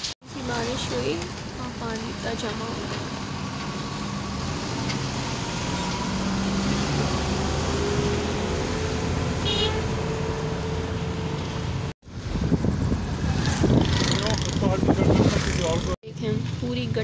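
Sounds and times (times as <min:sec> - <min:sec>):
engine and tyre hum: 0:00.0 - 0:17.0
passing traffic: 0:00.0 - 0:17.0.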